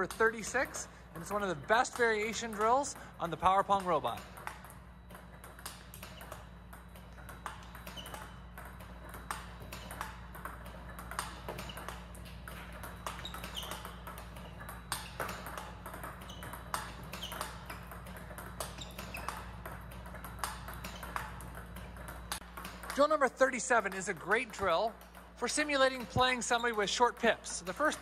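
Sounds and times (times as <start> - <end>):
table tennis balls clicking: 0.0 - 28.0.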